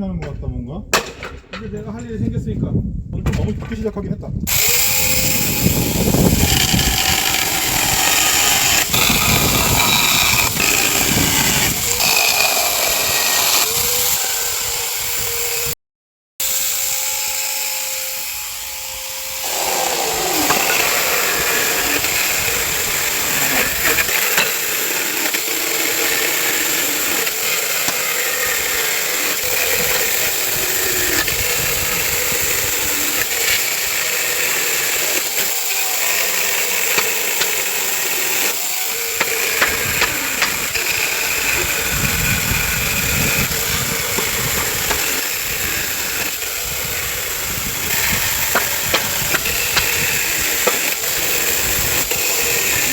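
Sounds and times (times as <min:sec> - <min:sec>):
chainsaw cutting wood: 0:04.5 - 0:15.8, 0:16.4 - 0:52.9.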